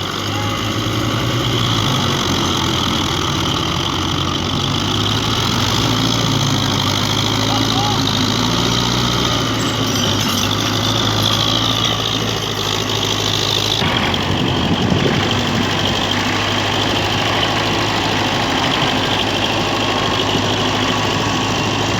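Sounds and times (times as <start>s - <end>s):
tractor diesel engine idling: 0.0s - 21.9s.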